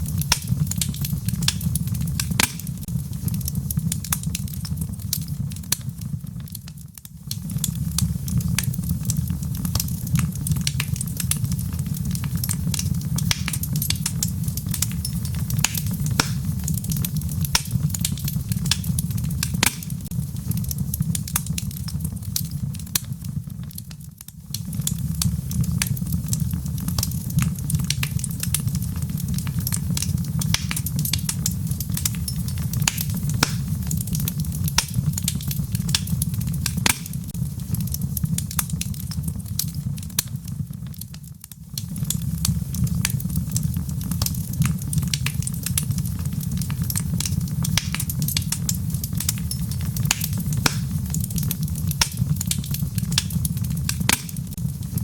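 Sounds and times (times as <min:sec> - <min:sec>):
low fire rumble: 0:00.0 - 0:55.0
soft hiss of rain: 0:00.0 - 0:55.0
wood fire crackling: 0:00.0 - 0:55.0.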